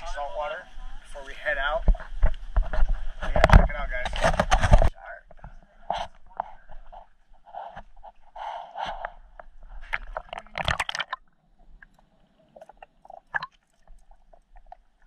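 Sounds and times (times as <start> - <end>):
water splashing and sloshing: 0.0 - 15.0
sharp clicks underwater: 1.8 - 15.0.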